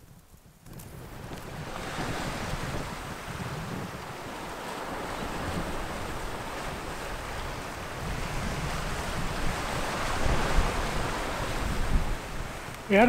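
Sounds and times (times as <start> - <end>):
wind buffeting microphone: 0.0 - 13.0
waves washing against rocks: 0.9 - 13.0.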